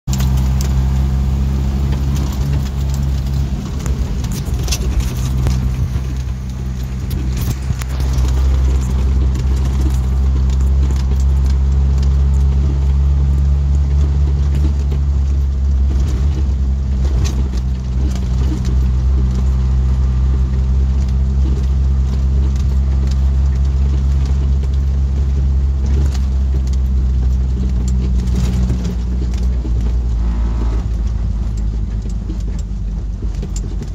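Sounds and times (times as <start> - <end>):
car engine droning: 0.0 - 33.9
body rattles and knocks: 0.1 - 33.9.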